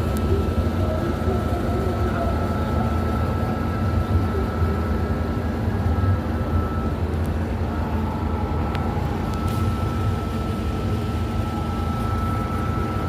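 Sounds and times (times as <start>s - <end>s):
faint high whine: 0.0s - 13.0s
vehicle engine rumble: 0.0s - 13.0s.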